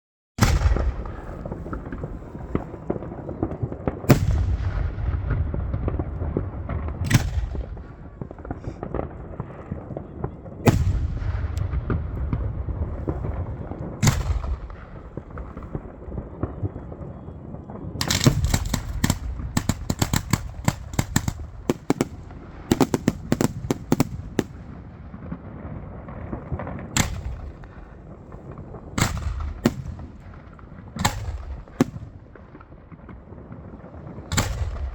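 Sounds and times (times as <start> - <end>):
rapid crackling firework bangs: 0.4 - 17.1, 18.0 - 34.9
firework bangs: 0.4 - 17.2, 18.0 - 34.9.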